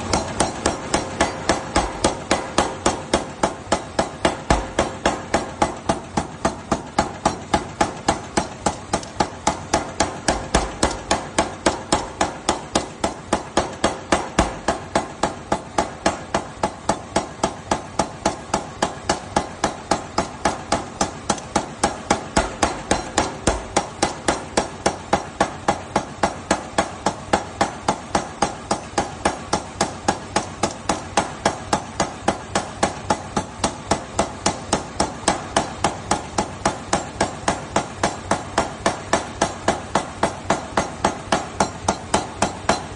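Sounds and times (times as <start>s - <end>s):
hammer striking hot steel: 0.0s - 42.9s.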